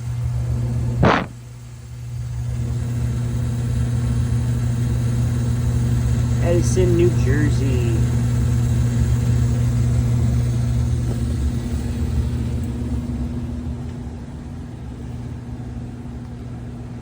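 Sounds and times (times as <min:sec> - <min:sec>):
furnace blower humming: 0:00.0 - 0:17.0.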